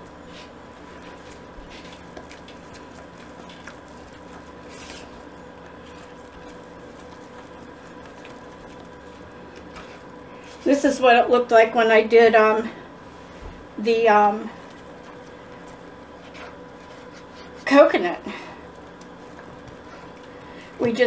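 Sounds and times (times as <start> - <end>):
spatula squishing and scraping pot: 0.0 - 11.3, 12.5 - 21.0.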